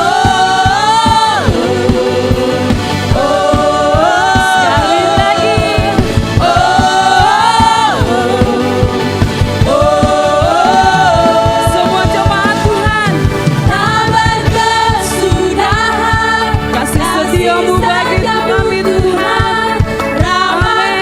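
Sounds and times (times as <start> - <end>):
band with steady drum beat: 0.0 - 21.0
voices singing together: 0.0 - 21.0.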